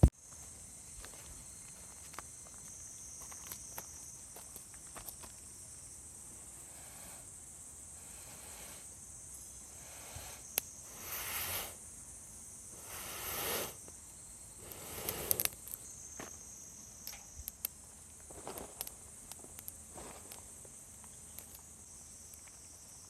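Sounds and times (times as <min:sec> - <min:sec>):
insects calling: 0:00.0 - 0:23.0.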